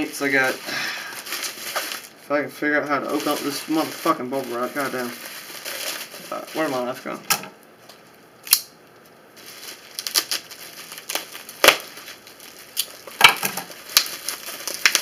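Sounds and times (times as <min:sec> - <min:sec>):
bubble wrap snapping: 0:00.0 - 0:07.0, 0:07.9 - 0:15.0
bubble wrap crinkling: 0:00.0 - 0:15.0.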